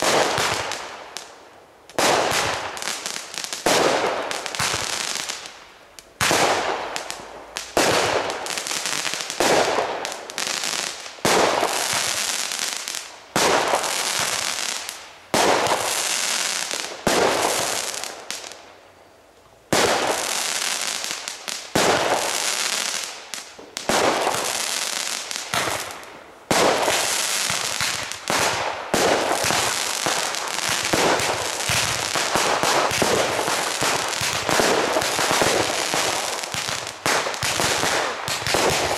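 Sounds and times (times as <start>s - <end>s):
fireworks banging: 0.0s - 1.3s, 1.9s - 18.6s, 19.7s - 38.9s.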